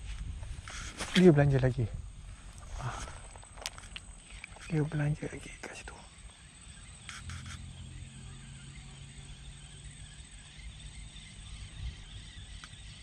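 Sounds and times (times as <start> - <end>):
insect hiss: 0.0 - 13.0.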